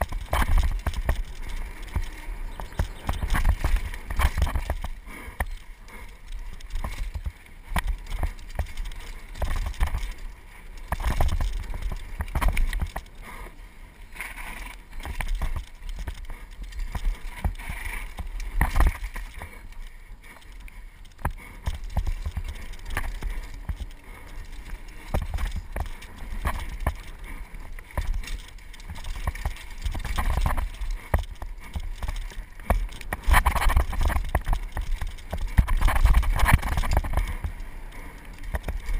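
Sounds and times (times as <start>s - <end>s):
bike knocks and rattles: 0.0s - 13.2s, 14.3s - 19.6s, 20.2s - 38.9s.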